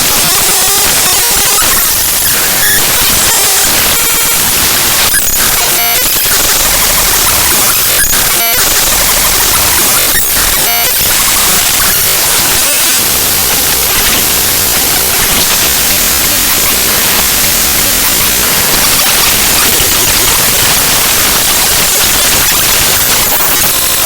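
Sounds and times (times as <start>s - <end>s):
buzzy patterned patches: 0.0s - 24.0s
harsh static-like noise: 0.0s - 24.0s.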